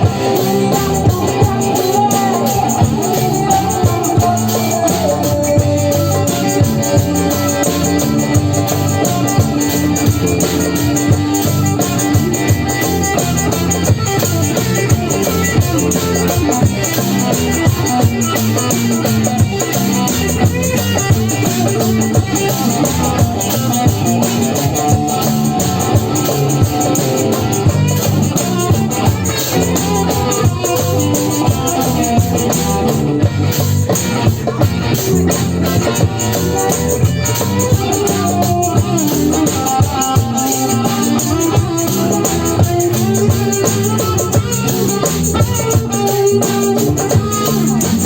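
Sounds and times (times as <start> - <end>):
bass line: 0.0 - 48.0
fast driving percussion: 0.0 - 48.0.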